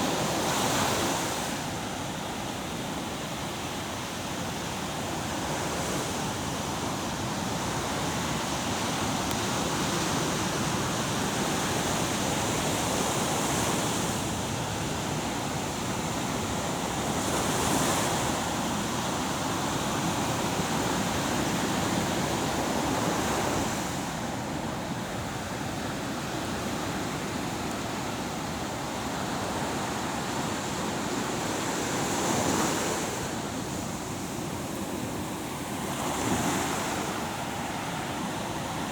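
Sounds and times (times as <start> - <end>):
wind: 0.0 - 38.9.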